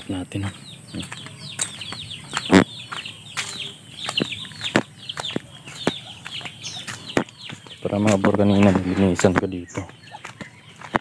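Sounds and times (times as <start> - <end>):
chicken clucking: 0.0 - 11.0
chickens chirping: 0.0 - 11.0.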